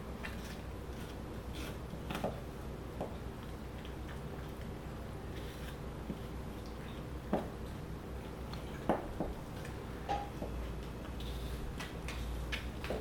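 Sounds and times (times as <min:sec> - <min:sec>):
puppy chewing apple: 0:00.0 - 0:13.0.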